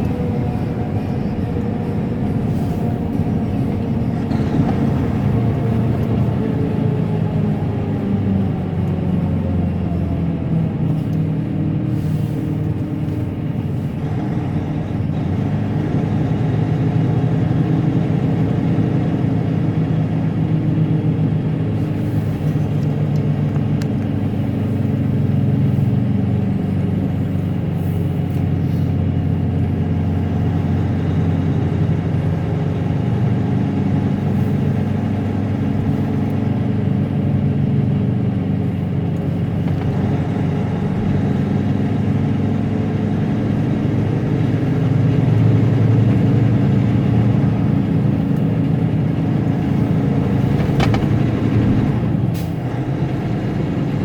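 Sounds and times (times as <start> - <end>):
truck diesel engine running: 0.0 - 54.0
tyre and road noise: 0.0 - 54.0.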